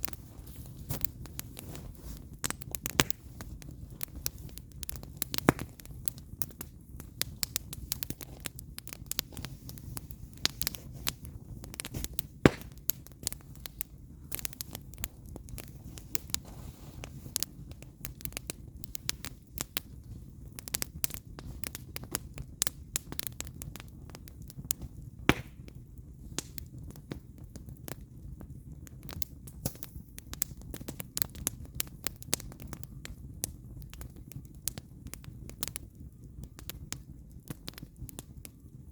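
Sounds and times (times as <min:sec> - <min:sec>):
campfire crackling and popping: 0:00.0 - 0:38.9
low fire rumble: 0:00.0 - 0:38.9.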